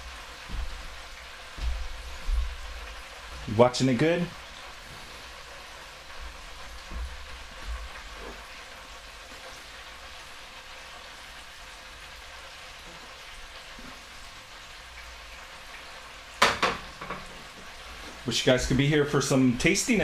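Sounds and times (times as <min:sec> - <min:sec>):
oil sizzling in deep fryer: 0:00.0 - 0:20.0.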